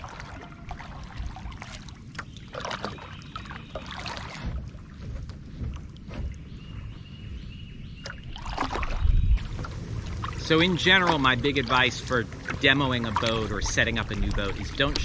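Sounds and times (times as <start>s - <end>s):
paddle strokes splashing water: 0.0s - 15.0s
low rumble: 3.0s - 15.0s.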